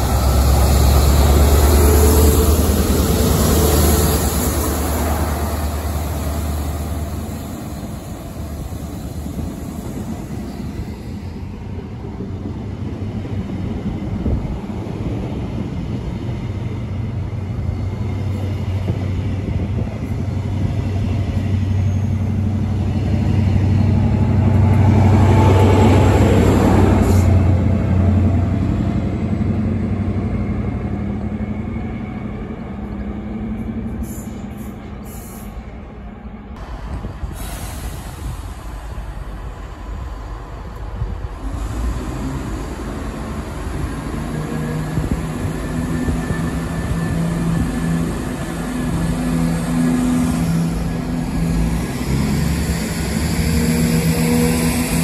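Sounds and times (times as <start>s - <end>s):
rumble of train coaches: 0.0s - 55.0s.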